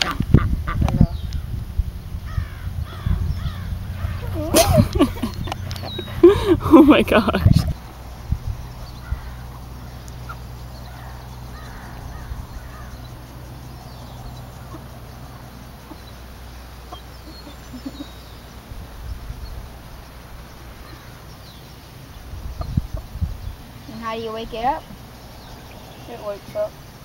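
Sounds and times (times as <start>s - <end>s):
chickens clucking: 0.0s - 1.1s, 2.9s - 8.0s, 8.7s - 21.4s, 22.1s - 26.6s
low background rumble: 0.0s - 27.0s.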